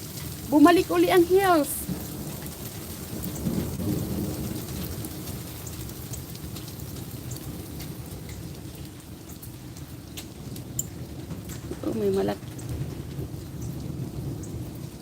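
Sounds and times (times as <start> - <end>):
hailstones ticking: 0.0 - 15.0
rain and hail falling: 0.0 - 15.0.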